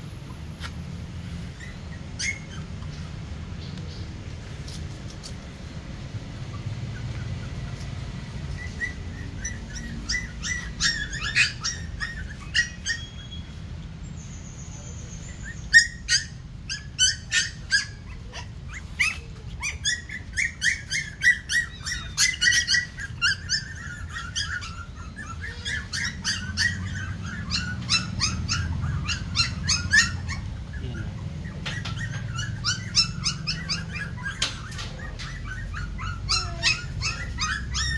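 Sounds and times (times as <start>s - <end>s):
puppies whimpering and yelping: 0.0s - 37.9s.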